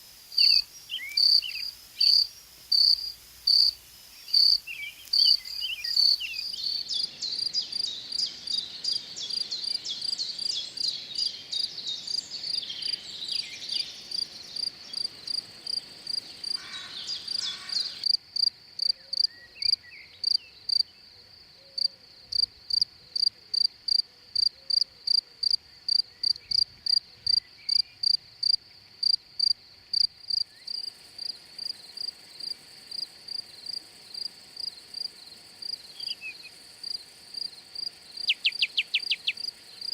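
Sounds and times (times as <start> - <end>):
busier insect chirping: 0.0 - 39.9
cricket chirping: 0.0 - 39.9.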